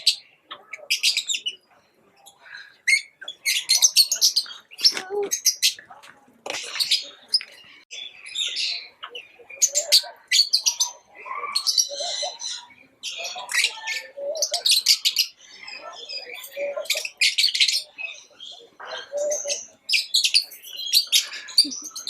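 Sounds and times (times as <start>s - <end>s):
lovebirds chirping: 0.0s - 22.0s.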